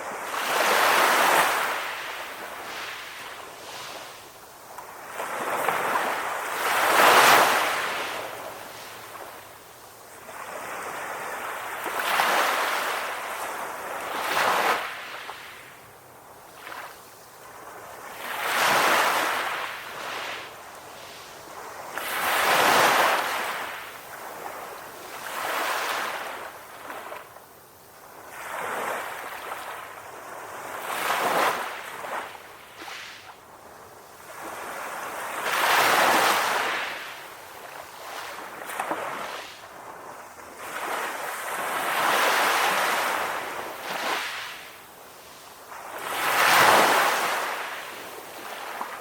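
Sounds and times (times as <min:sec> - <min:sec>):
ocean waves washing onto shore: 0:00.0 - 0:49.0.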